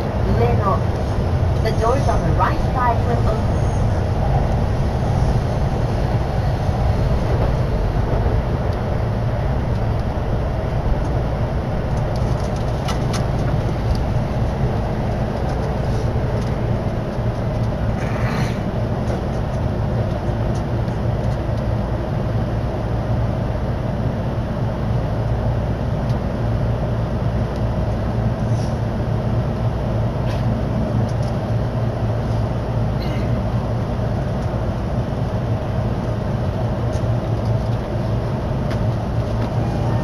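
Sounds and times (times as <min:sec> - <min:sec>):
train running rumble: 0:00.0 - 0:40.0.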